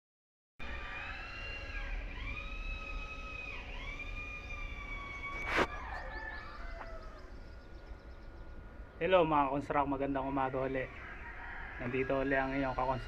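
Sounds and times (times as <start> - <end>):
siren wailing: 0.6 - 7.8, 9.0 - 13.0.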